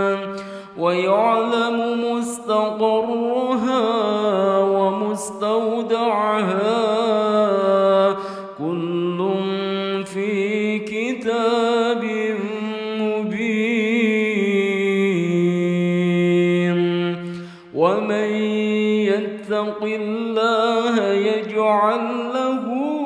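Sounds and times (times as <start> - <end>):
person chanting verse: 0.0 - 23.0.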